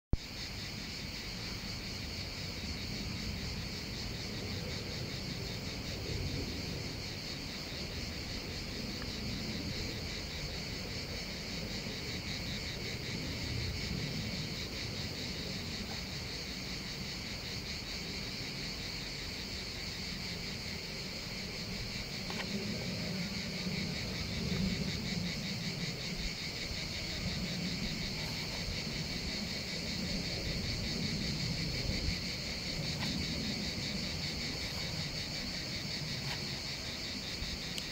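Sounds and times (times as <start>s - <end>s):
insects chirring: 0.2s - 37.9s.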